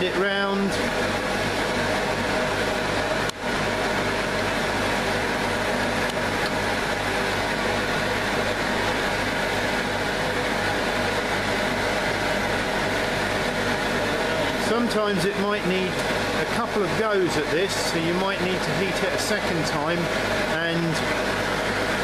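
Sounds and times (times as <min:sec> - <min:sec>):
forge burner roaring: 0:00.0 - 0:22.0.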